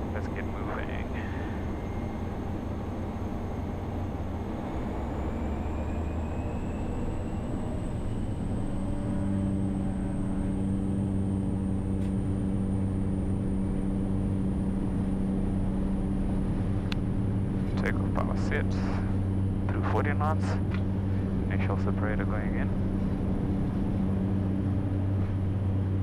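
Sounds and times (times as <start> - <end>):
propeller drone: 0.0 - 26.0.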